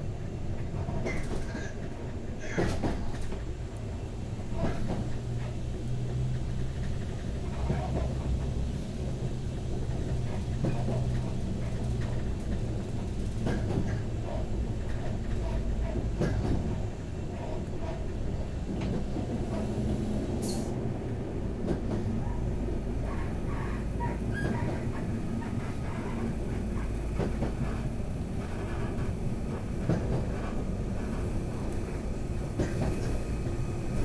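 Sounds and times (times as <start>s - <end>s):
wheels rumbling on rails: 0.0s - 34.0s.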